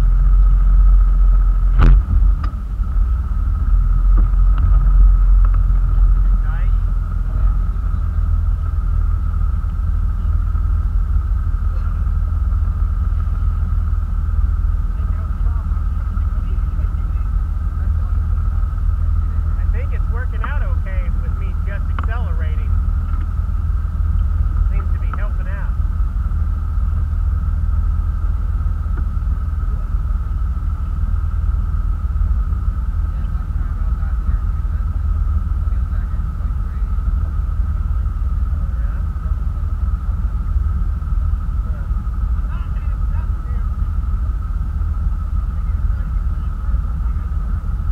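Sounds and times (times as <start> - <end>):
faint steady whine: 0.0 - 47.9
motorboat engine low rumble: 0.0 - 47.9.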